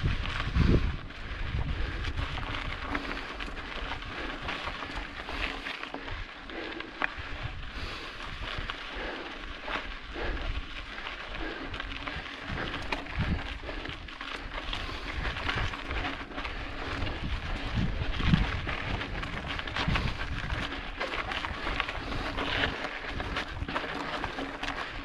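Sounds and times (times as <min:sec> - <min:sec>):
bike clicks and rattles: 0:00.0 - 0:25.0
bike tyres crunching over rocky trail: 0:00.0 - 0:25.0
wind rumbling on microphone: 0:00.0 - 0:25.0.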